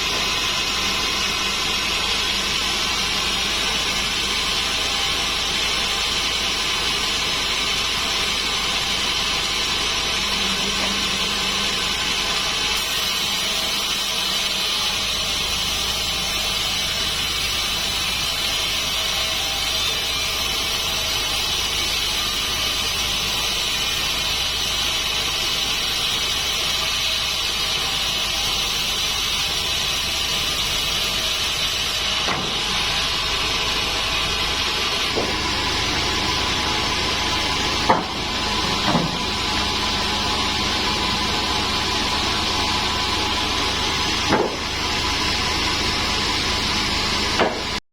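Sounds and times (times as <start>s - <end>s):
band saw cutting log: 0.0s - 47.8s.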